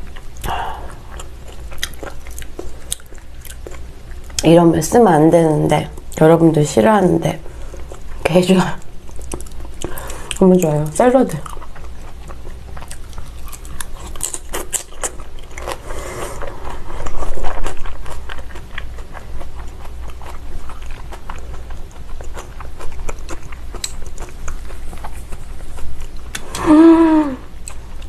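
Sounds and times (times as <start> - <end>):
wet chewing sounds: 0.0 - 4.6, 7.4 - 26.6.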